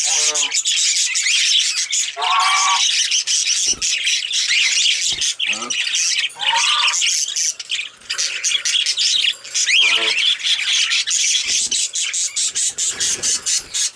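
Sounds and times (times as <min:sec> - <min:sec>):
budgerigars chattering and warbling: 0:00.0 - 0:13.9.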